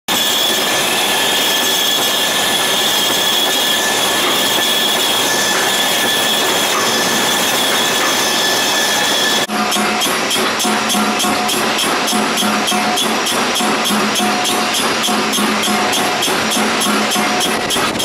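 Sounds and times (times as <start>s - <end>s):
high squeal of tool on metal: 0.1s - 18.0s
lathe cutting hiss: 0.1s - 18.0s.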